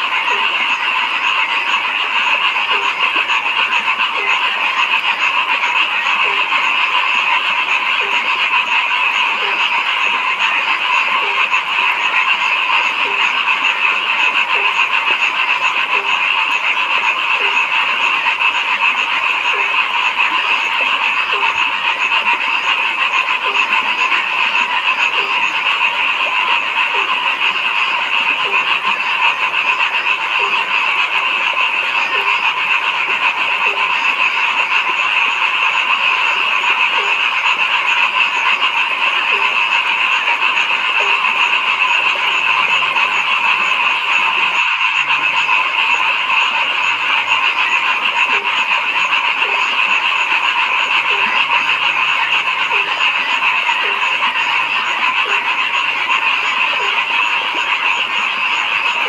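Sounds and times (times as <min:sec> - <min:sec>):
chorus of frogs calling: 0:00.0 - 0:59.0
low single frog calls: 0:00.0 - 0:59.0.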